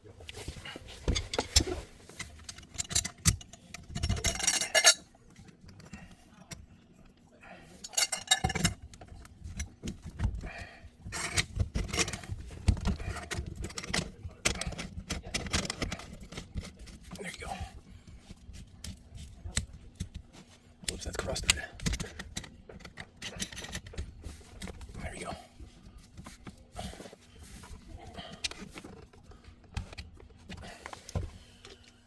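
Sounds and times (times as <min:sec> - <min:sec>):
plumbing parts clinking and rattling: 0:00.4 - 0:06.6, 0:07.7 - 0:32.0.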